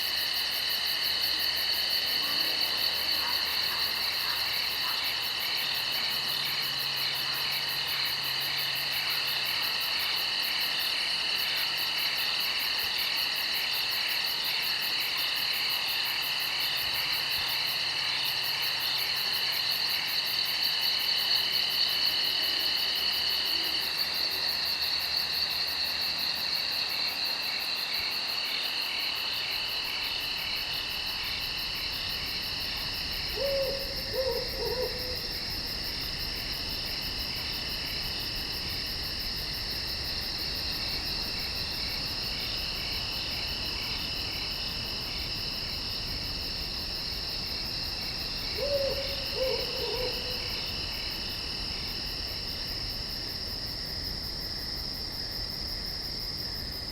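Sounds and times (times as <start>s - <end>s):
night insects trilling: 0.0s - 56.9s.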